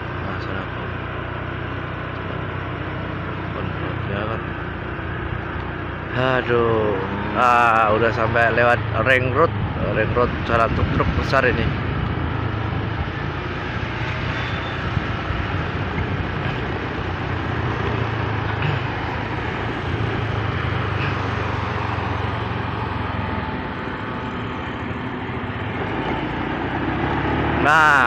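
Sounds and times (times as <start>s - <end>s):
motorcycle engine hum: 0.0s - 28.0s
road noise: 0.0s - 28.0s
traffic: 0.0s - 28.0s
rushing wind: 0.9s - 28.0s.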